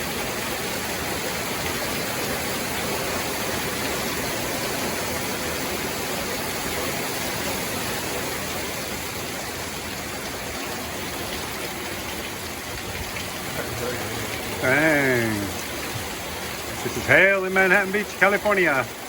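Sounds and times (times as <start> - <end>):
hail pelting down: 0.0 - 19.0.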